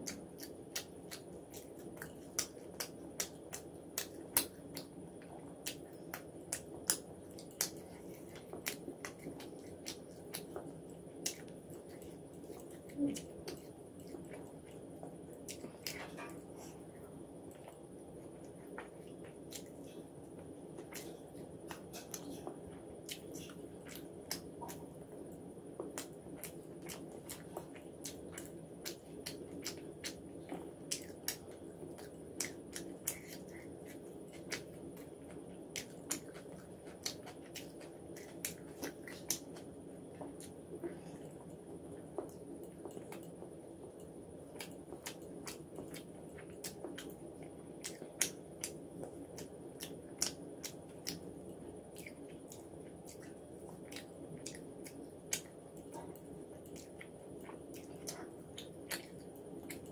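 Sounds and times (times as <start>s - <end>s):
person chewing food: 0.0s - 59.9s
steady low hum: 0.0s - 59.9s.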